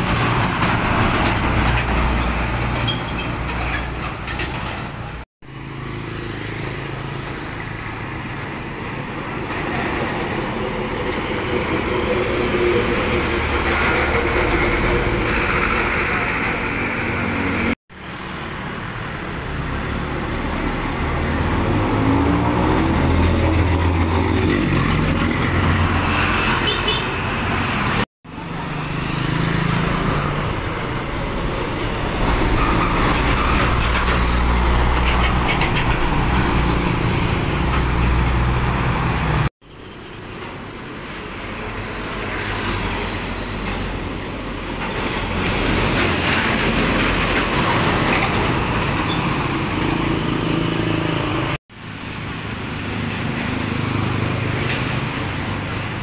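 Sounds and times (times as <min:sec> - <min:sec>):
heavy trucks passing: 0:00.0 - 0:56.0.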